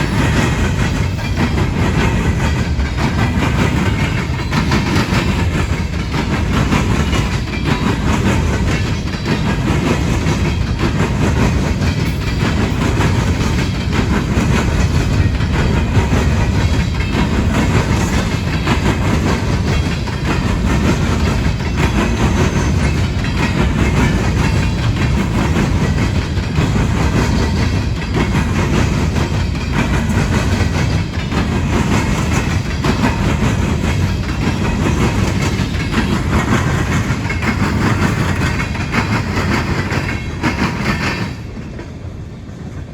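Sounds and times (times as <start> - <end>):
low train rumble: 0.0 - 42.9
train wheels clattering over rail gaps: 0.0 - 42.9.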